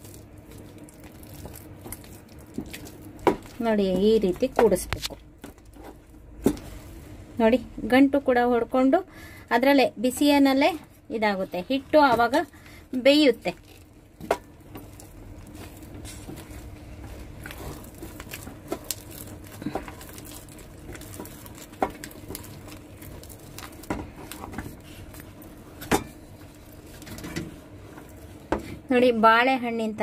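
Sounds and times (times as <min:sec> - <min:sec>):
stick squelching through thick dough: 0:00.0 - 0:07.0, 0:10.0 - 0:28.9
steady low hum: 0:00.0 - 0:30.0.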